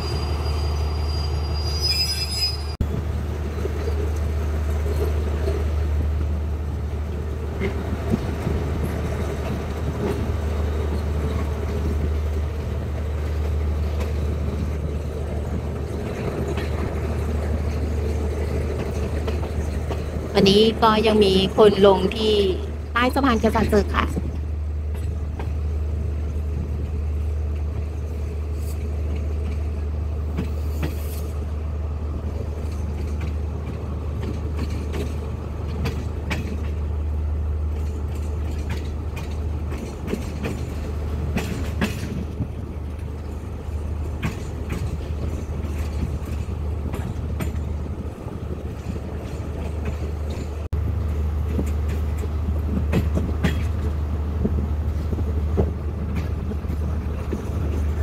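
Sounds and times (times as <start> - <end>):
train rumble: 0.0 - 58.0
wheels clacking over rail joints: 3.4 - 21.4, 23.6 - 31.5, 32.2 - 58.0.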